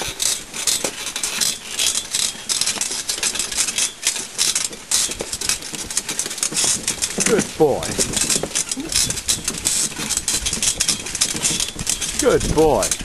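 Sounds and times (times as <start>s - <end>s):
carriage rattling over rough track: 0.0s - 13.0s.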